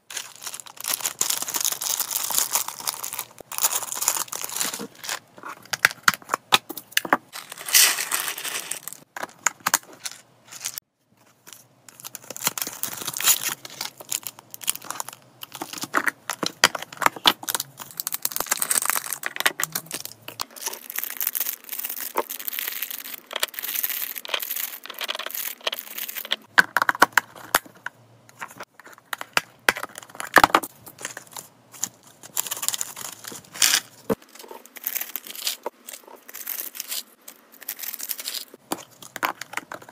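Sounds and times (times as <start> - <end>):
plastic packaging crinkling: 0.1 - 6.2, 7.3 - 26.5, 28.7 - 39.9.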